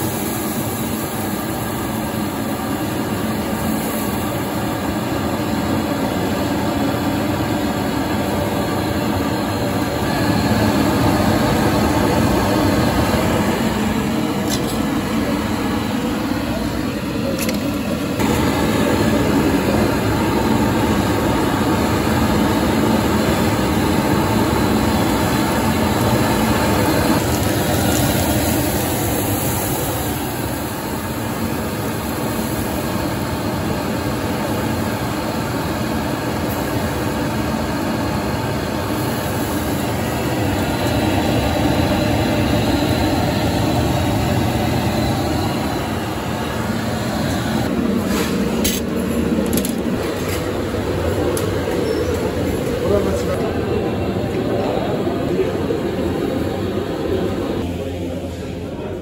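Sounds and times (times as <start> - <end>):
gas burner flames rushing: 0.0 - 58.7.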